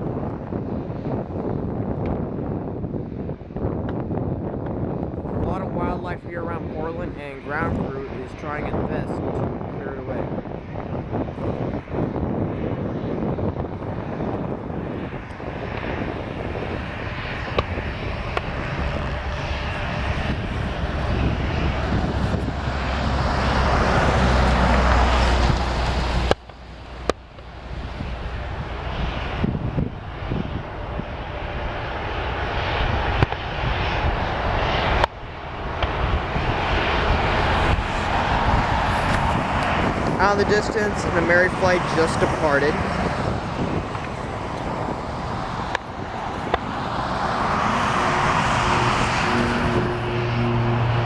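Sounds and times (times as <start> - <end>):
aircraft engine roar: 0.0 - 51.0.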